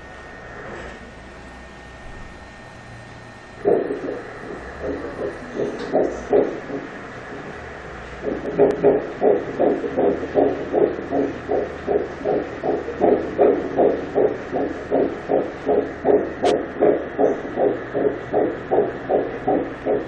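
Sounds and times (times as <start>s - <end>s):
doppler heartbeat whooshing pulse: 3.2s - 20.0s.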